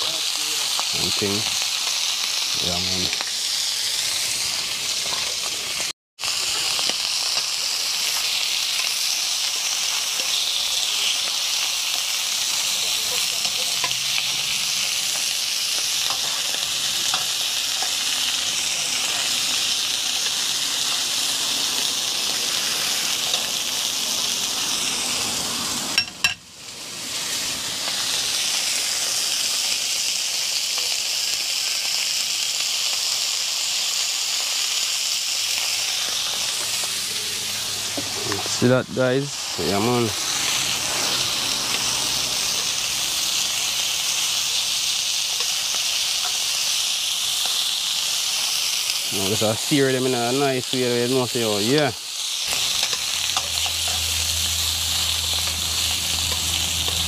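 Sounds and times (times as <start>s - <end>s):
fish frying in hot oil: 0.0s - 57.0s.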